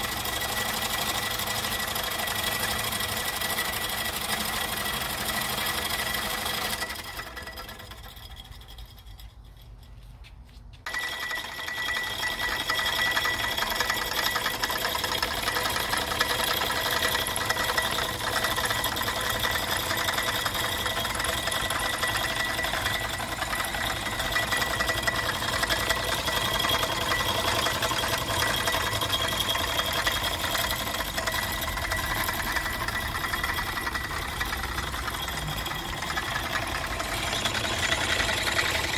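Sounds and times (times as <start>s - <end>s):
fret saw clattering and whining: 0.0s - 38.9s.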